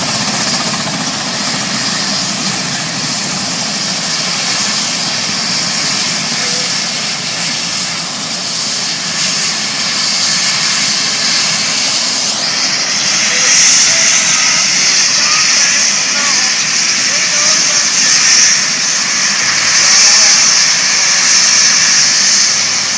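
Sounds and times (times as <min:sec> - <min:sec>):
aircraft engine rushing: 0:00.0 - 0:22.9.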